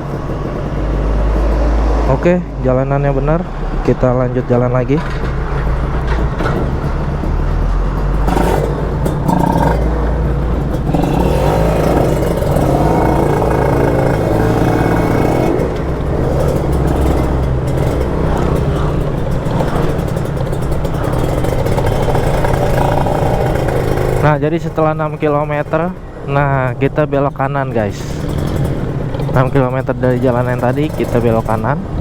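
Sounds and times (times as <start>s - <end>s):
two-stroke motorcycle engine: 0.0s - 32.0s.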